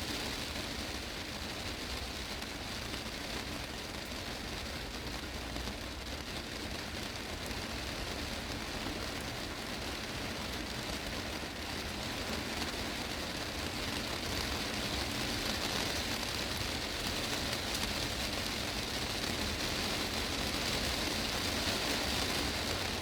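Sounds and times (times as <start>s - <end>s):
heavy rain on a glass roof: 0.0s - 23.0s.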